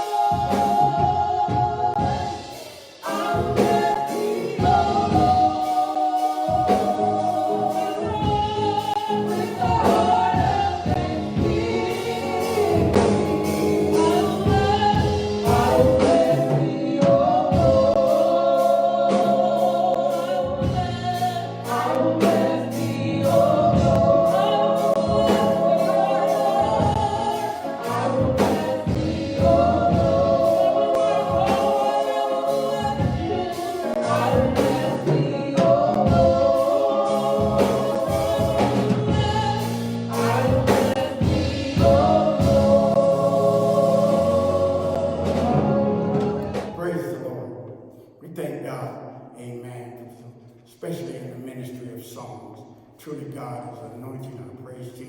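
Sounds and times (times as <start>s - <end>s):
steady drum beat: 0.0s - 47.4s
band accompaniment: 0.0s - 48.8s
choir singing gospel in harmony: 0.0s - 55.0s.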